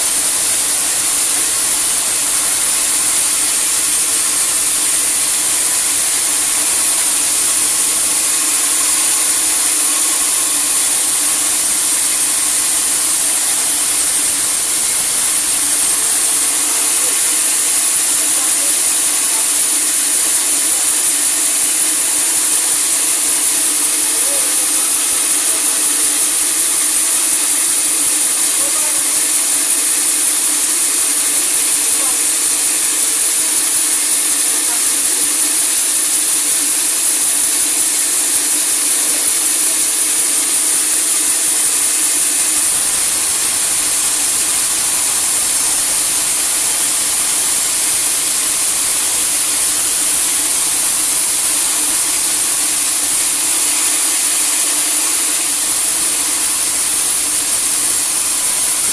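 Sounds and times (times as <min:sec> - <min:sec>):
saw cutting through log: 0:00.0 - 0:58.9.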